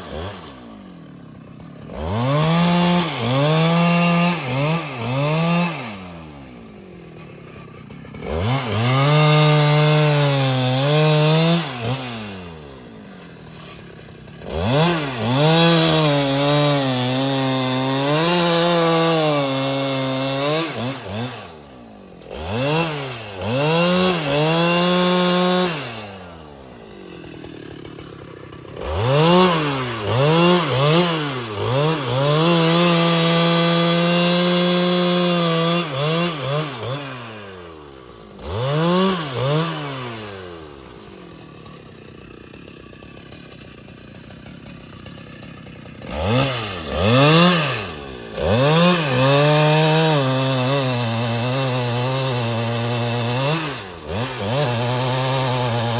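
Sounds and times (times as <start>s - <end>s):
chainsaw revving and idling: 0.0s - 55.9s.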